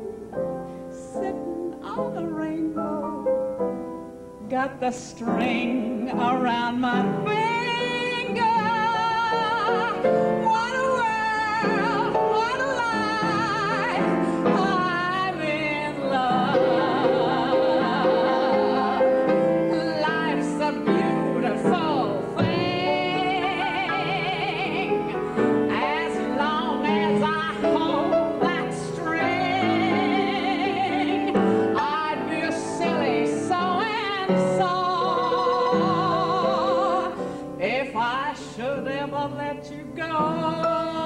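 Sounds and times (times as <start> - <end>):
grand piano accompaniment: 0.0 - 41.0
soprano singing operatically: 0.8 - 41.0.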